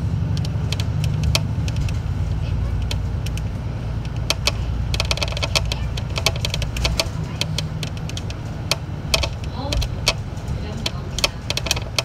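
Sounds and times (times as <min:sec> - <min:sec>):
bus engine rumble: 0:00.0 - 0:12.0
clicking and rattling: 0:00.3 - 0:12.0.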